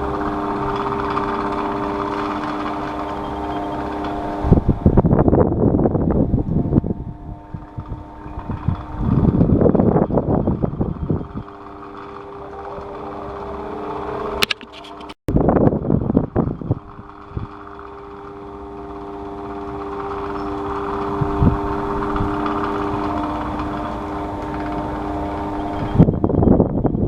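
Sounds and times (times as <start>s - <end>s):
electric fan humming: 0.0s - 27.0s
low rumbling buffets: 0.0s - 27.0s.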